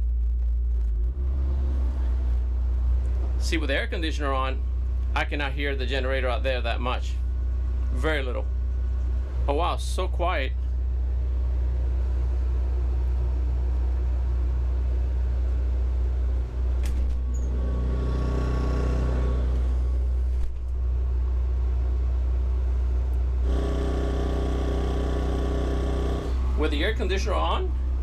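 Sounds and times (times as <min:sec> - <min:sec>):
air conditioner hum: 0:01.2 - 0:28.0
faint generator running: 0:01.9 - 0:28.0.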